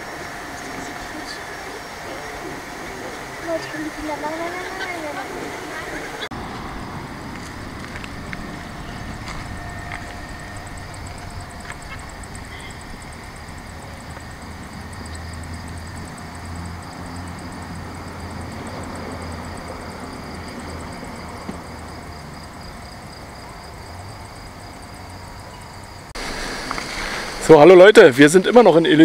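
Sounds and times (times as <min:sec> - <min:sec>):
low machine hum: 0:00.0 - 0:27.8
insects buzzing: 0:00.0 - 0:29.0
outdoor noise: 0:00.0 - 0:29.0.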